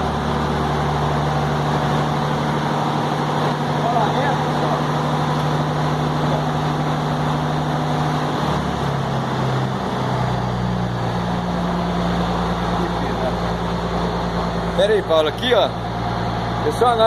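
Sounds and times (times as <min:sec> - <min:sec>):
engine low hum: 0:00.0 - 0:17.0.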